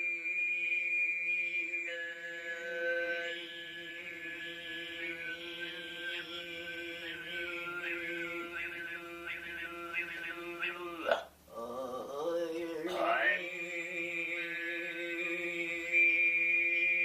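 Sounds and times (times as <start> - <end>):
throat singing drone with whistling overtone: 0.0 - 17.0.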